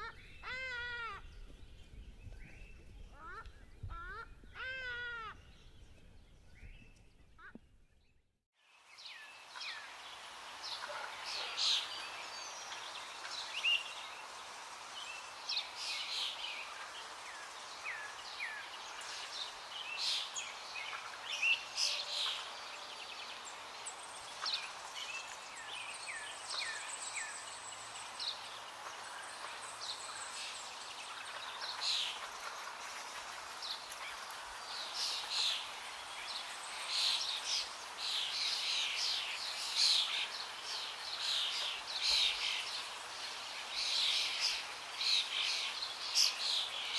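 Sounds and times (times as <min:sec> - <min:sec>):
steady background hiss: 0:08.6 - 0:46.9.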